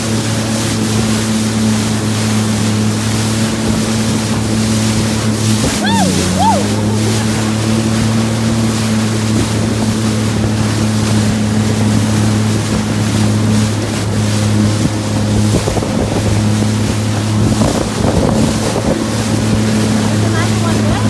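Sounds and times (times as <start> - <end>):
water rushing past hull: 0.0 - 21.0
watercraft engine running: 0.0 - 21.0
wind buffeting microphone: 0.7 - 21.0.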